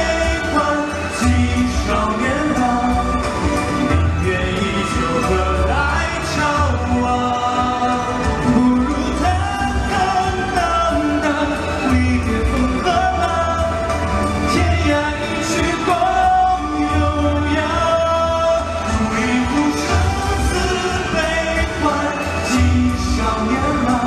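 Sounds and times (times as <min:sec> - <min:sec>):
amplified backing music: 0:00.0 - 0:24.0
men singing into microphones: 0:00.0 - 0:24.0.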